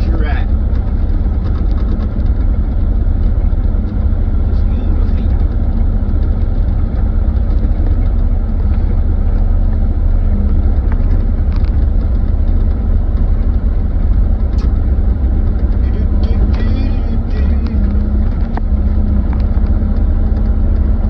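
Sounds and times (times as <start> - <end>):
diesel engine rumbling: 0.0 - 21.0
light clicks and knocks: 0.4 - 21.0.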